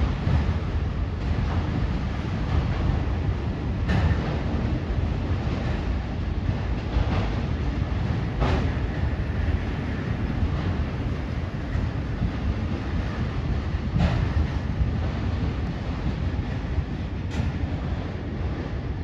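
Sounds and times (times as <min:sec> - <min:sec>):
train cars rumbling and rattling: 0:00.0 - 0:19.0.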